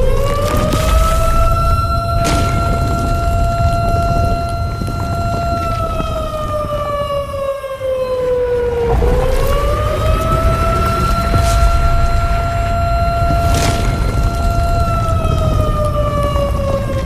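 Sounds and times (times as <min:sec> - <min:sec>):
low rumble: 0:00.0 - 0:07.2, 0:08.7 - 0:17.0
siren-like warning tone: 0:00.0 - 0:17.0.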